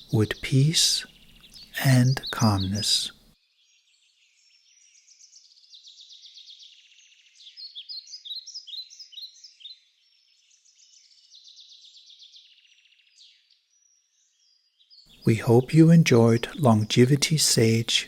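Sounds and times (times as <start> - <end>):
songbird trilling and chirping: 0.0 - 17.8.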